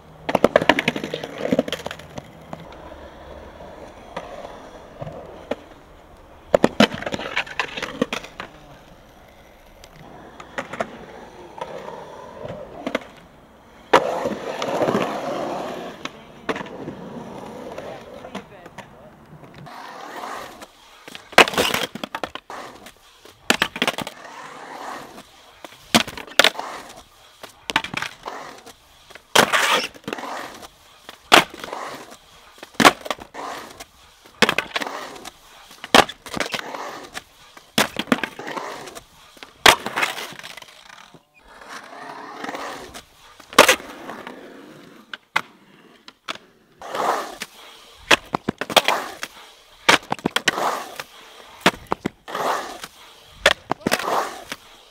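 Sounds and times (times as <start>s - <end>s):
skateboard wheels rolling on concrete: 0.0s - 54.9s
skateboard clacks: 0.1s - 54.9s.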